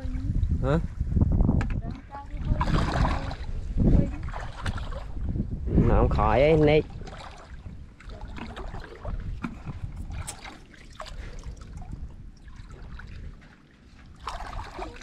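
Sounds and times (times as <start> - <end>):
muddy water sloshing and splashing: 1.7 - 15.0.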